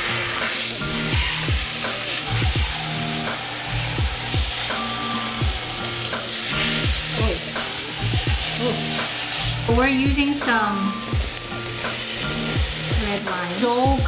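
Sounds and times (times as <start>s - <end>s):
meat searing in hot oil: 0.0s - 14.0s.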